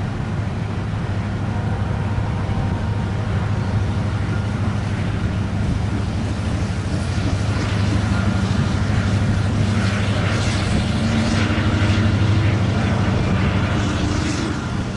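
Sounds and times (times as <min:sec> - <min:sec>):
train wheels rumbling on rails: 0:00.0 - 0:14.9.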